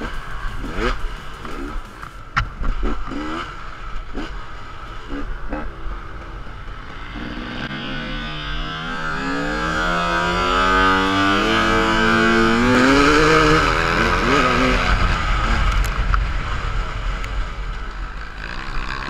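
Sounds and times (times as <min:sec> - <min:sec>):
dirt bike engine revving: 0:00.0 - 0:17.6, 0:18.2 - 0:19.0.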